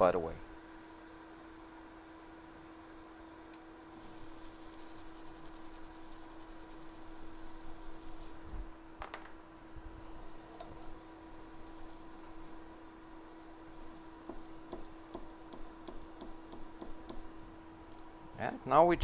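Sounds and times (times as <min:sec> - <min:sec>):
faint electronics hum: 0:00.0 - 0:19.0.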